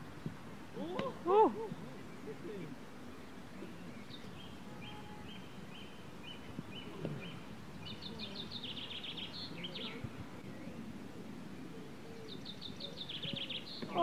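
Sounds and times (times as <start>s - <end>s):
low steady background: 0.0s - 14.0s
bird chirping: 1.6s - 10.8s, 11.7s - 14.0s.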